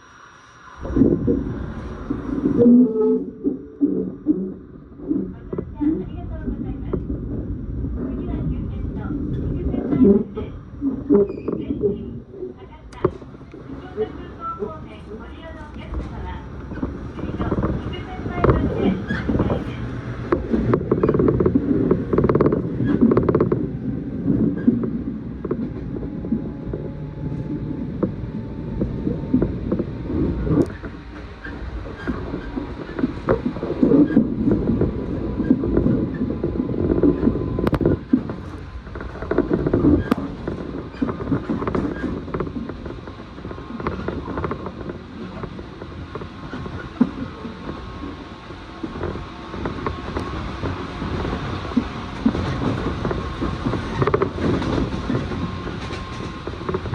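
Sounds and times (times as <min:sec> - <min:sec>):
faint steady whine: 0:00.0 - 0:56.9
train wheels rumbling on rail: 0:00.0 - 0:56.9.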